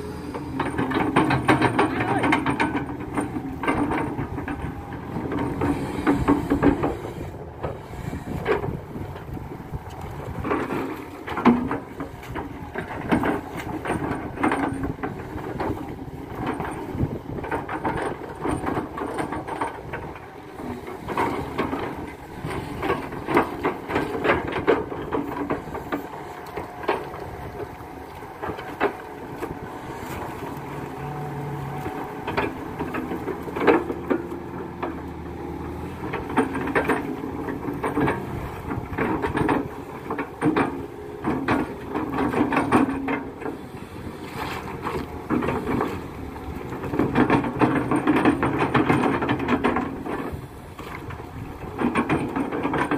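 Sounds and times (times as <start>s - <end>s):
excavator diesel engine under load: 0.0s - 52.9s.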